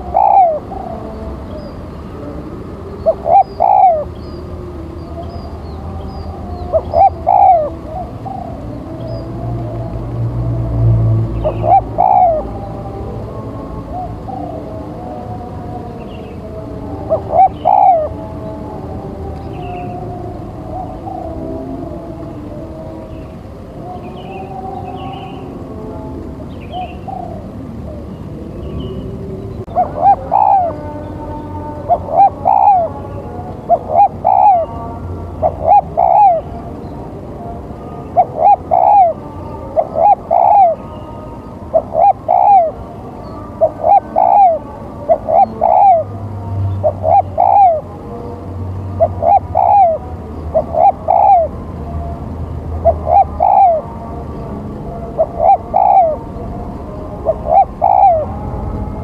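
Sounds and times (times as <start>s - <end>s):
dove cooing: 0.0s - 10.0s, 11.3s - 52.2s, 52.8s - 54.0s, 54.9s - 59.0s.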